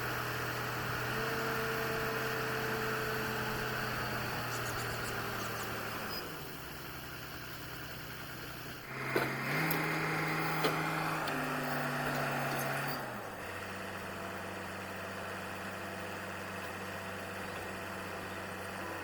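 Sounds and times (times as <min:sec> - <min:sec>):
drilling rig engine revving: 0:00.0 - 0:19.0.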